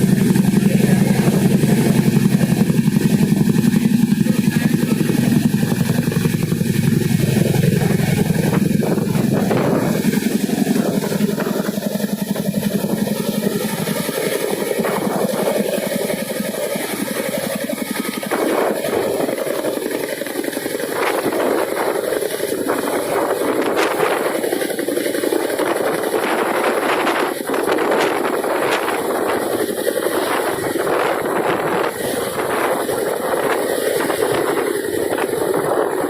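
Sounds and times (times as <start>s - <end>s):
helicopter rotors chopping: 0.0s - 36.0s
turbine engines: 0.0s - 36.0s.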